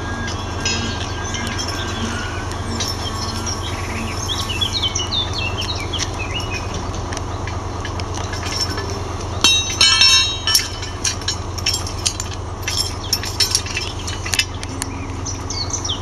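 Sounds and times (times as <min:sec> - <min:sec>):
ringing metallic strikes: 0:00.0 - 0:07.0, 0:08.2 - 0:16.0
metal hose couplings clinking: 0:00.0 - 0:16.0.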